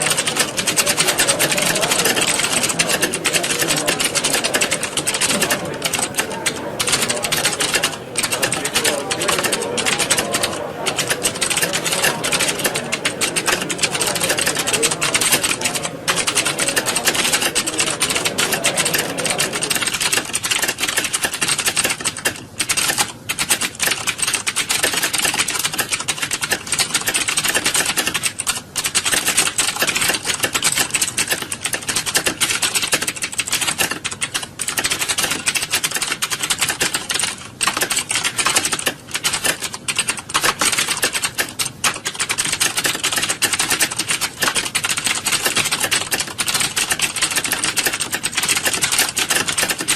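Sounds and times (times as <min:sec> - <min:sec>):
many keyboards typing: 0:00.0 - 0:49.9.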